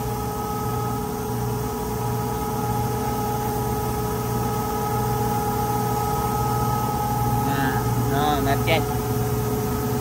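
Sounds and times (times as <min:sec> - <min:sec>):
engine room machinery drone: 0:00.0 - 0:10.0.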